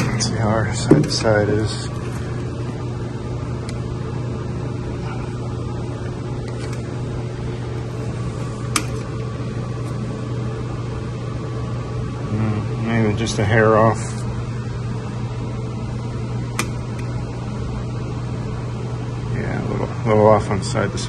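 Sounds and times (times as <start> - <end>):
machine room hum: 0.0 - 21.0.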